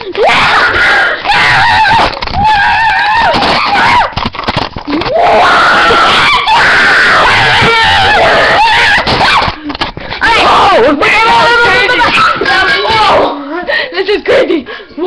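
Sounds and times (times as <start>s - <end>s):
young people screaming: 0.1s - 4.3s, 4.9s - 9.6s, 10.2s - 13.4s.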